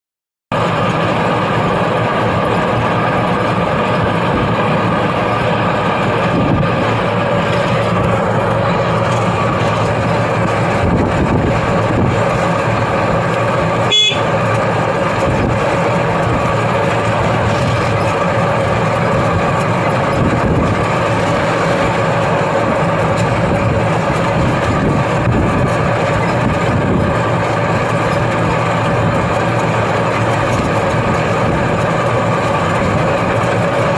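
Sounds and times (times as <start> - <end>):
vehicle drone: 0.5 - 33.9.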